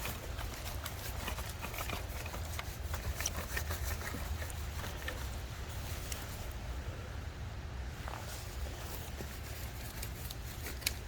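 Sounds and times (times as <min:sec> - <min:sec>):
rake scraping through wet soil: 0:00.0 - 0:06.6, 0:08.2 - 0:11.0.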